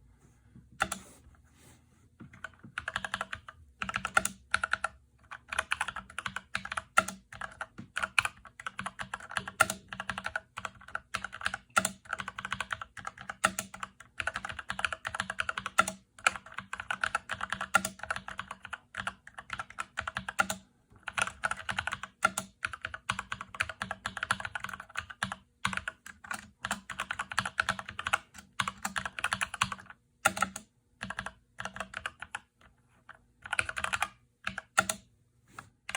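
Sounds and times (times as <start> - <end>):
mechanical keyboard typing clacks: 2.4 - 32.5, 33.4 - 35.0.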